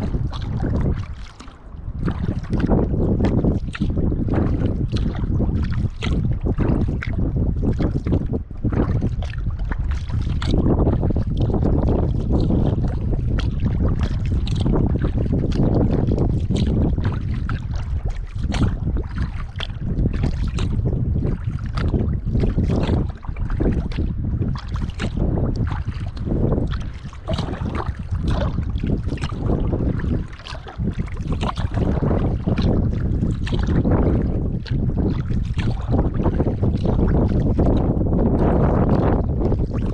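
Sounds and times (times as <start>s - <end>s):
paddle strokes splashing: 0.0s - 39.9s
wind rumble on microphone: 0.0s - 39.9s.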